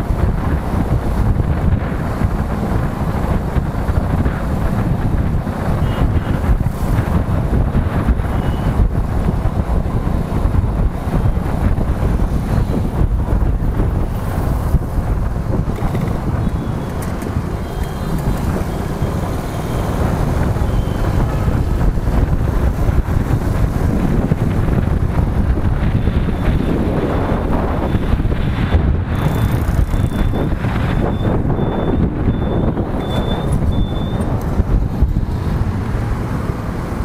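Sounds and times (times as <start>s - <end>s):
motorcycle engine: 0.0s - 37.0s
road noise: 0.0s - 37.0s
wind buffeting microphone: 0.0s - 37.0s.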